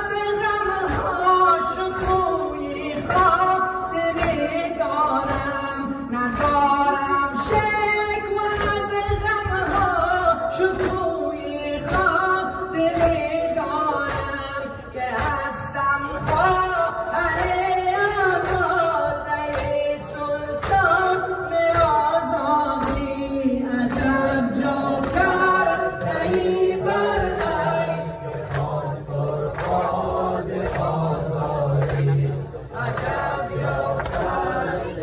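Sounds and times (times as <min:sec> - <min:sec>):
congregation singing in chorus: 0:00.0 - 0:35.0
man singing a lament: 0:00.0 - 0:35.0.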